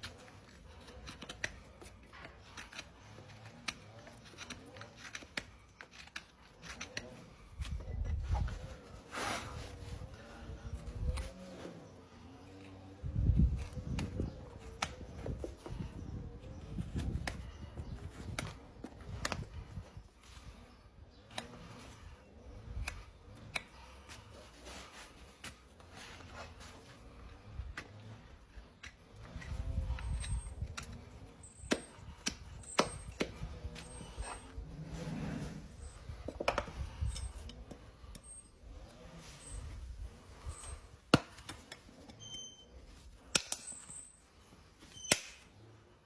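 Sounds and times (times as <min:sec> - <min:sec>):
hoof tools clicking and snipping: 0:00.0 - 0:34.8, 0:35.8 - 0:45.6.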